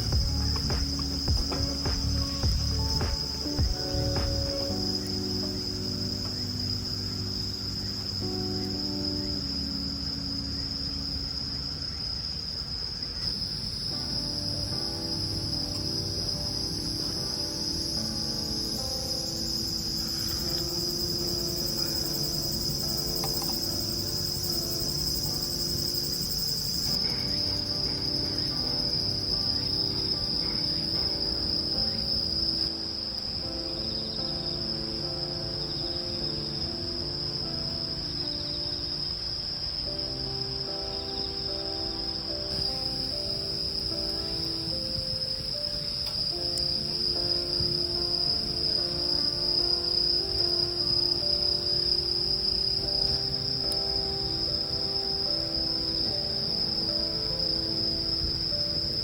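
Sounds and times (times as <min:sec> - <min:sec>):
insects trilling: 0:00.0 - 0:59.0
soft background music: 0:00.0 - 0:59.0.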